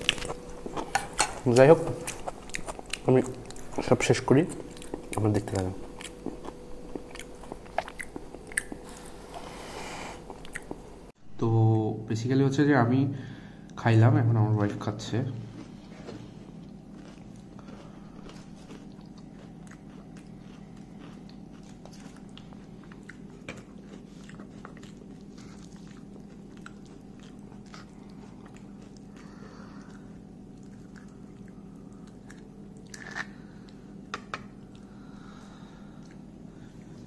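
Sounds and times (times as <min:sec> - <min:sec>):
person chewing crunchy food: 0:00.0 - 0:10.8, 0:15.5 - 0:37.0
steady low hum: 0:00.0 - 0:37.0.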